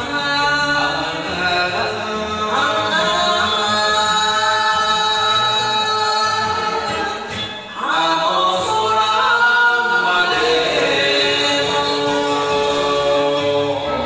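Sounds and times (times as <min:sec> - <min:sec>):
karaoke backing track: 0:00.0 - 0:14.0
man and woman singing duet: 0:00.0 - 0:14.0.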